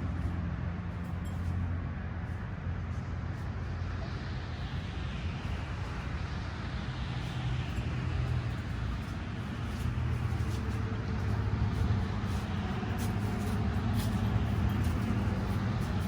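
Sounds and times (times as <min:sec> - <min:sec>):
traffic engine rumble: 0:00.0 - 0:16.0.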